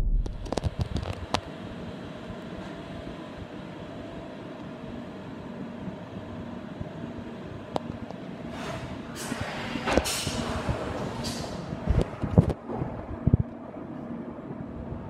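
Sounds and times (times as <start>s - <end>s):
machine mechanical hum: 0.0s - 15.0s.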